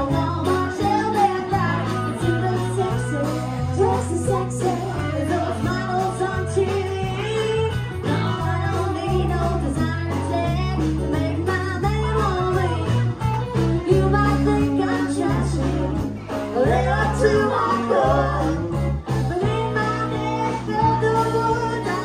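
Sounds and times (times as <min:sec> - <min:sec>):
amplified guitar backing: 0:00.0 - 0:22.0
bass line: 0:00.0 - 0:22.0
woman singing country song: 0:00.0 - 0:22.0.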